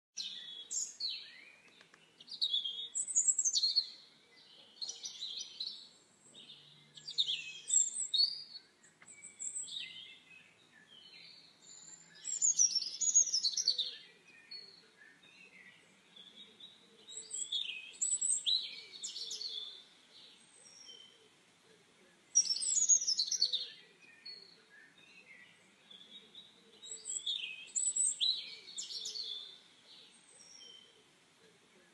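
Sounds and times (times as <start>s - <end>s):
small birds chirping: 0.2s - 31.9s.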